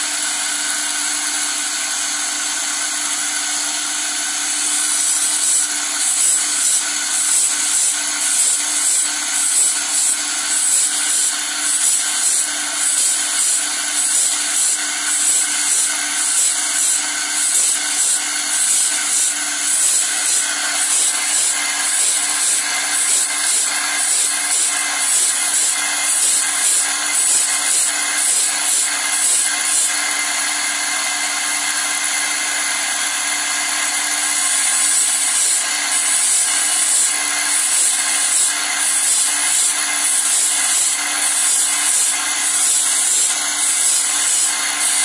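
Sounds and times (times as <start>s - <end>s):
electric motor hum: 0.0s - 45.0s
grinding wheel scraping saw teeth: 0.0s - 45.0s.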